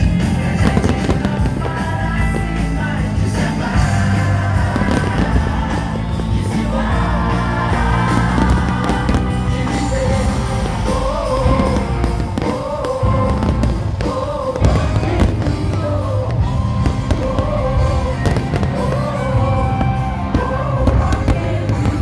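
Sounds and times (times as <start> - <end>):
fireworks bangs and crackling: 0.0 - 22.0
loud music with strong bass: 0.0 - 22.0.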